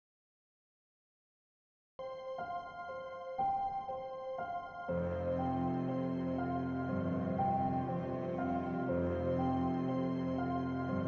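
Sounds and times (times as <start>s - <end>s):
music: 2.0s - 11.0s.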